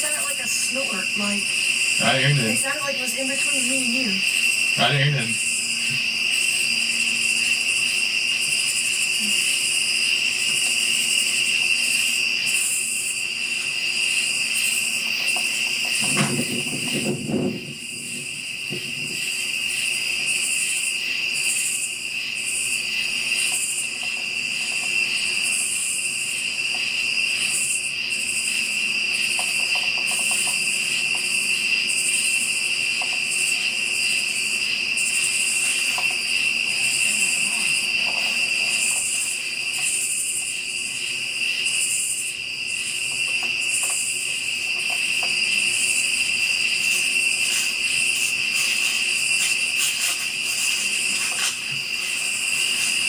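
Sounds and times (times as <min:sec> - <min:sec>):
crickets and insects chirring: 0:00.0 - 0:53.0.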